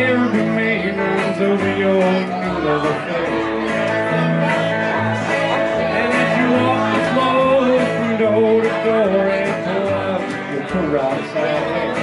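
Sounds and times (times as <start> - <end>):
acoustic guitar: 0.0 - 12.0
electric guitar: 0.0 - 12.0
man singing: 0.0 - 12.0
upright double bass: 0.0 - 12.0.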